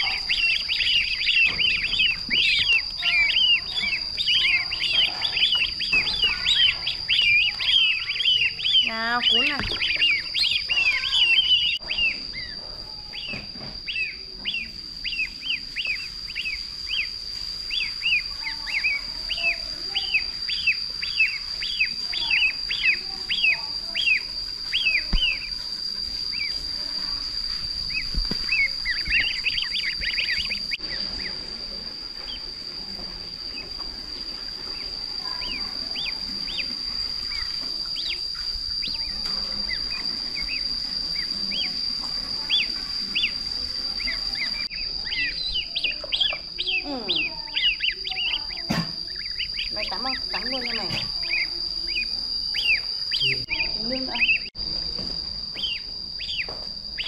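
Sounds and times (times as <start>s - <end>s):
ducklings peeping: 0.0s - 54.5s, 55.5s - 57.0s
steady high-pitched tone: 0.0s - 57.0s.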